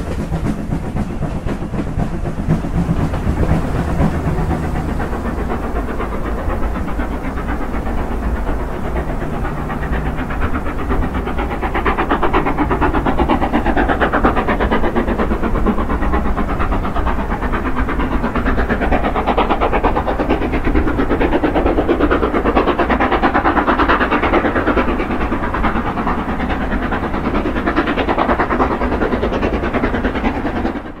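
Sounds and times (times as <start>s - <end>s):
steam locomotive chuffing: 0.0s - 31.0s
train running on rails: 0.0s - 31.0s.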